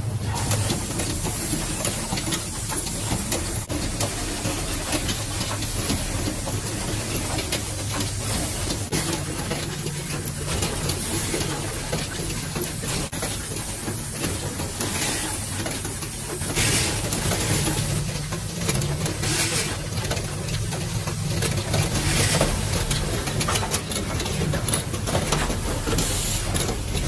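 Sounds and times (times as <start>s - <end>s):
machine hissing and humming: 0.0s - 27.0s
mechanism clicks and clacks: 0.0s - 27.0s.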